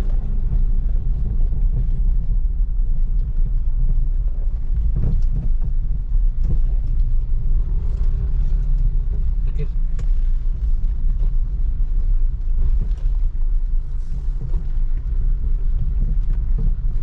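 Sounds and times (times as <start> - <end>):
car driving on road: 0.0 - 17.0.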